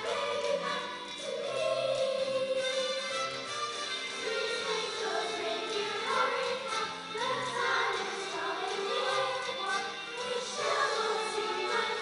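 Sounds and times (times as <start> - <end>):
children's choir singing: 0.0 - 3.0, 4.1 - 12.0.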